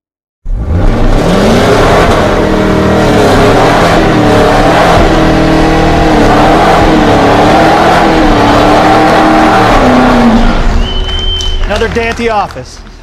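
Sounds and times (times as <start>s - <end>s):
car engine revving loudly: 0.5s - 11.4s
tyres spinning in a burnout: 0.7s - 12.1s.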